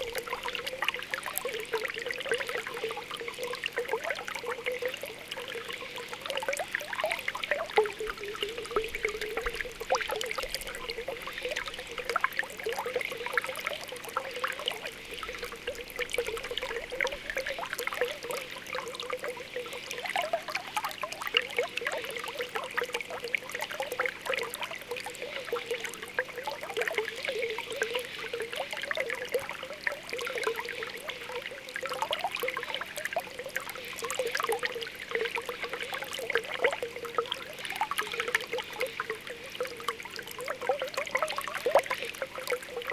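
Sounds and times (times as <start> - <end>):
spring water bubbling: 0.0 - 42.9.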